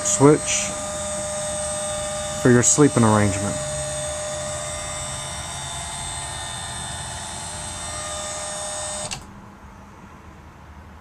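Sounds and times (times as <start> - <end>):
electric lift motor humming: 0.0 - 9.3
high mechanical whine: 0.0 - 9.4.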